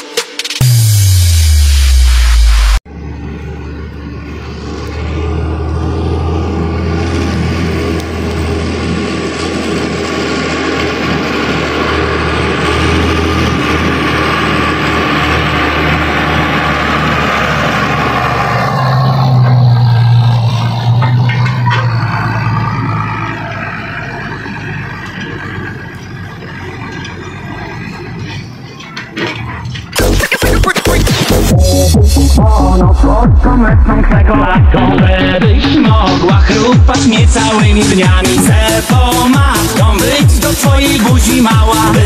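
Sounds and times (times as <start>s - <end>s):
tractor diesel engine passing: 0.6s - 42.0s.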